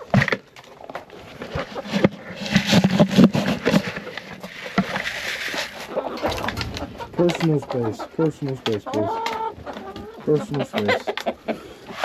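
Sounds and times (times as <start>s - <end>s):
sharp clicks and knocks: 0.0s - 10.1s
scraping: 0.0s - 10.5s
crunching footsteps: 0.0s - 11.2s
chickens clucking: 0.0s - 12.0s.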